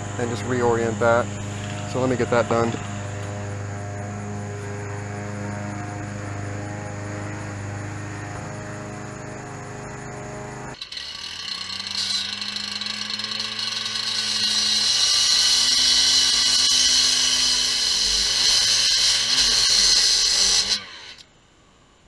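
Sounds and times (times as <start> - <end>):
cut-off saw engine running hard: 0.0 - 21.2
saw blade grinding concrete: 0.0 - 21.2.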